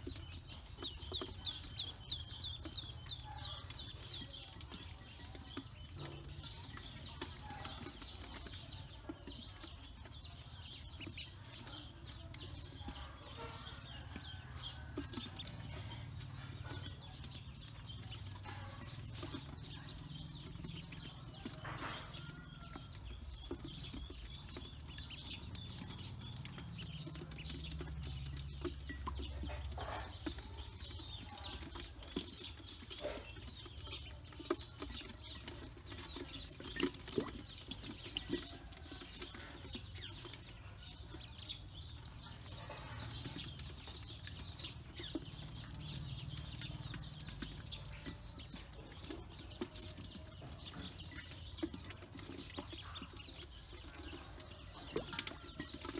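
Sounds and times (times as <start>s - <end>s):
ducklings peeping: 0.0s - 55.9s.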